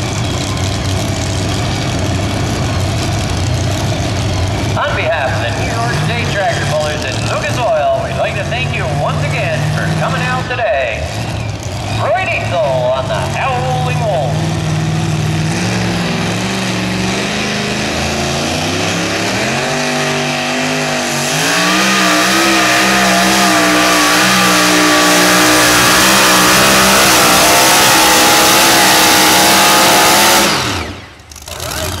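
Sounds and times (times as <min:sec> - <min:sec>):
tractor engine at full throttle: 0:00.0 - 0:32.0.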